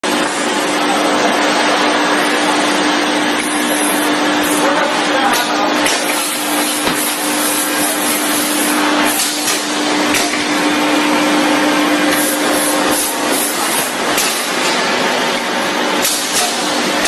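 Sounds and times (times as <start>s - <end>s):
factory machinery hissing: 0.0s - 17.0s
machinery hum: 0.0s - 17.0s.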